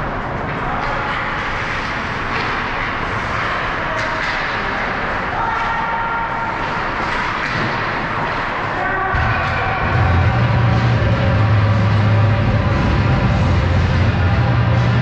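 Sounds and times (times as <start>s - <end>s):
indoor rink noise: 0.0s - 15.0s.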